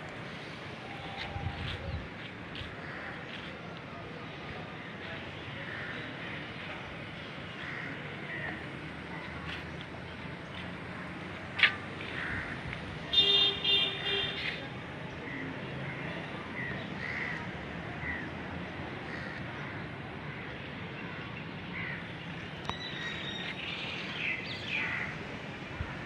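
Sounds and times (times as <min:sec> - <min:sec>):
faint background noise: 0:00.0 - 0:26.0.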